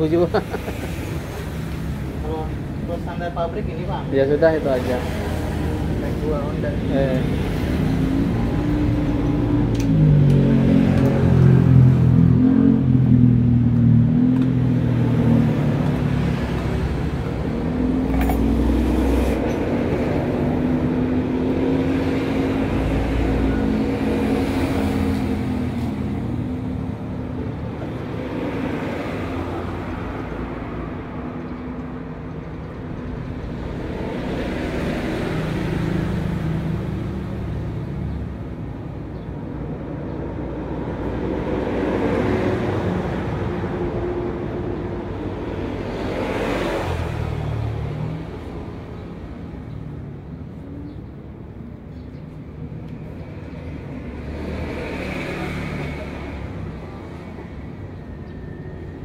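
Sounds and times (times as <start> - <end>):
vehicles passing by: 0.0 - 59.0.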